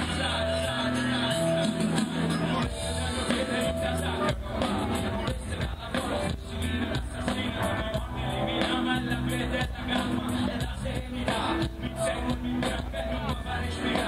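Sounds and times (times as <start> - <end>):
person singing: 0.0 - 14.0
rock band playing: 0.0 - 14.0.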